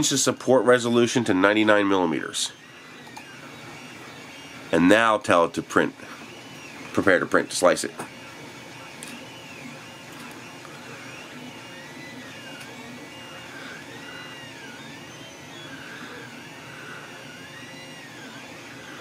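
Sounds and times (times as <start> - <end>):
stepper motors whining: 0.0 - 19.0.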